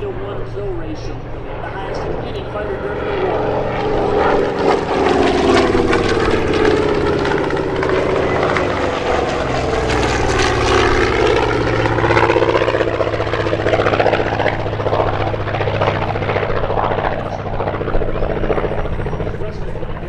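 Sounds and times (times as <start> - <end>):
propeller planes flying past: 0.0 - 20.0.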